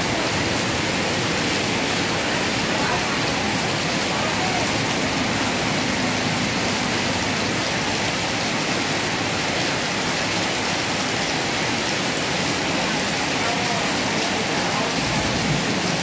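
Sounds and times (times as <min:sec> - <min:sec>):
heavy rain on wet street: 0:00.0 - 0:16.0.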